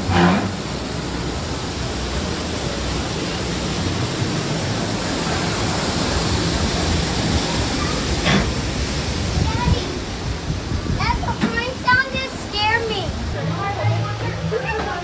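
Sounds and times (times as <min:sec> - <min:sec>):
ride train rumbling: 0:00.0 - 0:15.0
water rushing from waterfall: 0:00.0 - 0:15.0.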